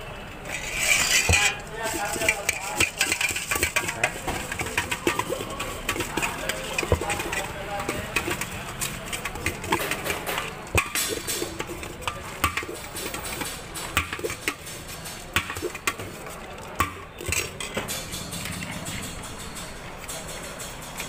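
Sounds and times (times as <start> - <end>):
metal spoon scraping metal vessel: 0.4 - 21.0.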